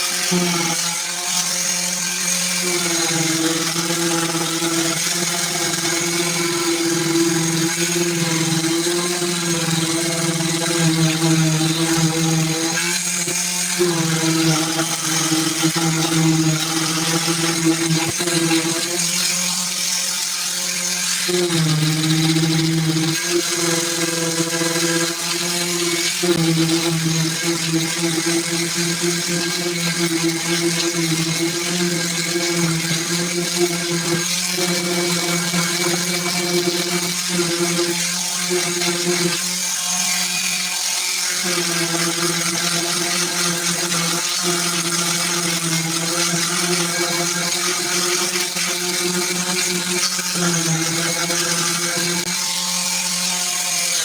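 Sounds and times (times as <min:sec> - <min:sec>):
power sander whirring: 0:00.0 - 0:54.0.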